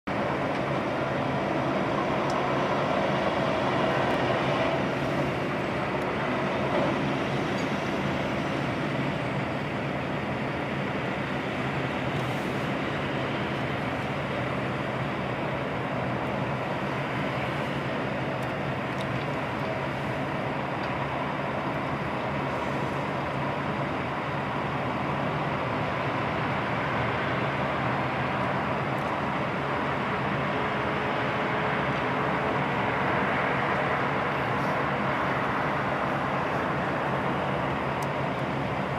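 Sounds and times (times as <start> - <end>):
truck engine droning: 0.1 - 38.9.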